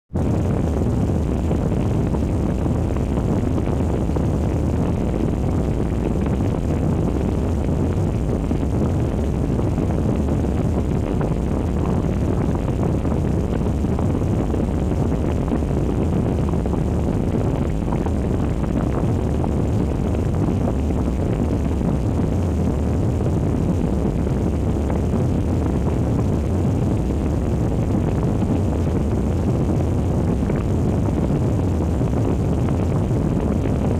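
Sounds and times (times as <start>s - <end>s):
low rumbling drone: 0.2s - 33.9s.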